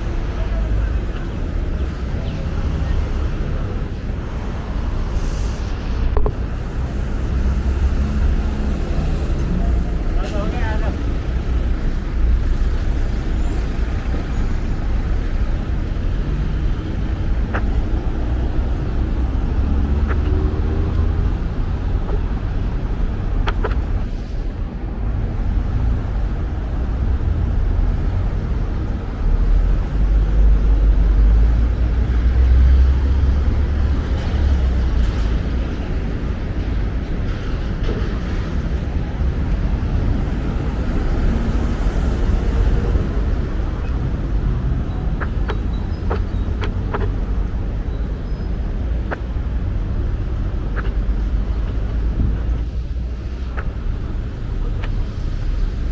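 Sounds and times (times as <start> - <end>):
passing cars rumbling: 0.0 - 55.9.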